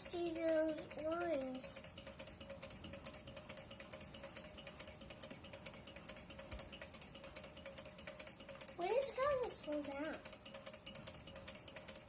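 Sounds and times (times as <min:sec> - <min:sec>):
stirling engine ticking: 0:00.0 - 0:12.0.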